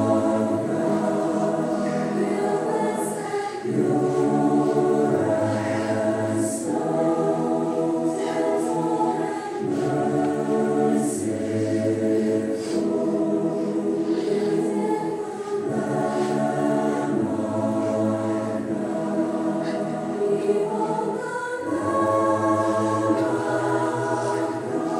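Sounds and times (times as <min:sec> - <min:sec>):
choir singing slow held chords: 0:00.0 - 0:24.9.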